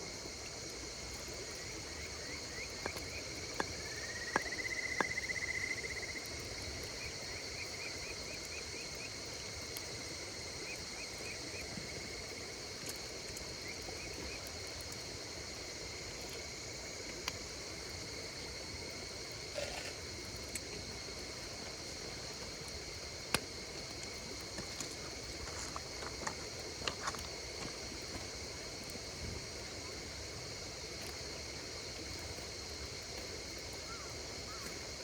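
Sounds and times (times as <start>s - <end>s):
campfire hissing and crackling: 0.0s - 35.0s
insects singing: 0.9s - 29.1s.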